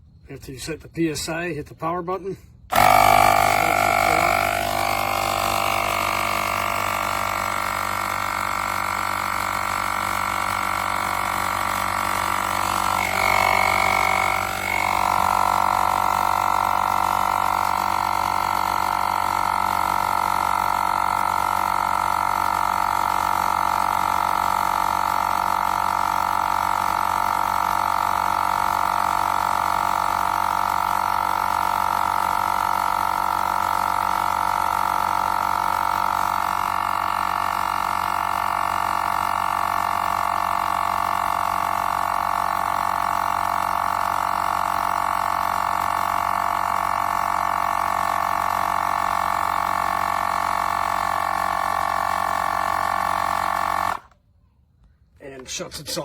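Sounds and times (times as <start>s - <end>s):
small air compressor running: 2.2s - 54.2s.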